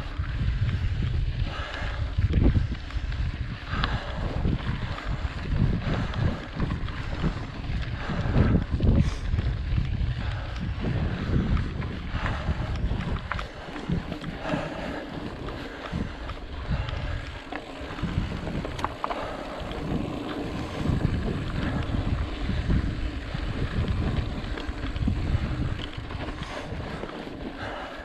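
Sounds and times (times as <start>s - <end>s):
bike clicks and rattles: 0.0s - 28.0s
wind buffeting microphone: 0.0s - 28.0s.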